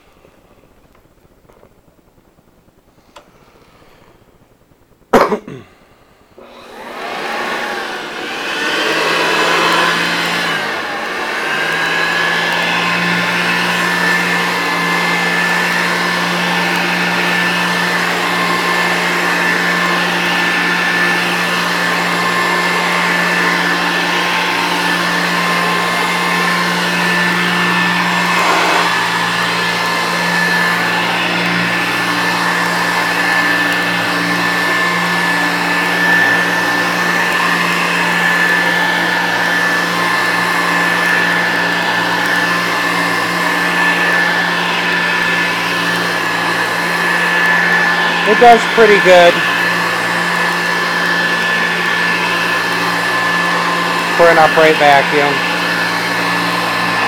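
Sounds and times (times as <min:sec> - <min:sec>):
upright vacuum cleaner running: 0:00.0 - 0:57.0.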